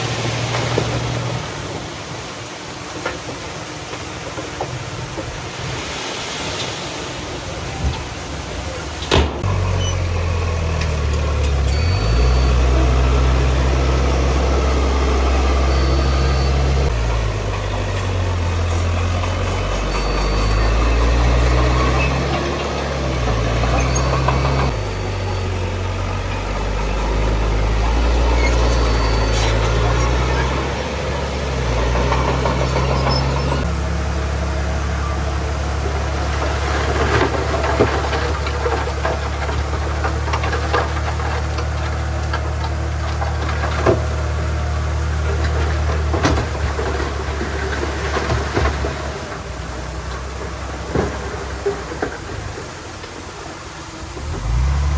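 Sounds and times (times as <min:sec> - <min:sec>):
large diesel engine under load: 0:00.0 - 0:54.9.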